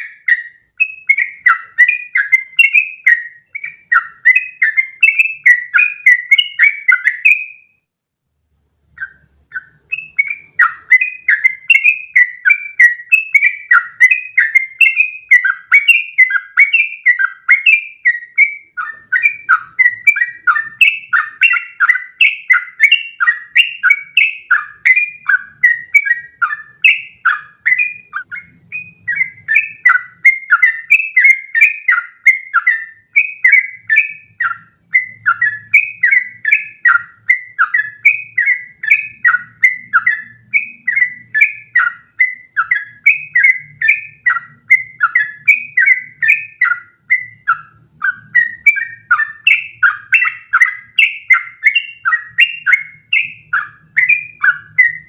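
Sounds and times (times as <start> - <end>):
bird singing bubbling whistled notes: 0.0 - 7.8, 8.9 - 55.0.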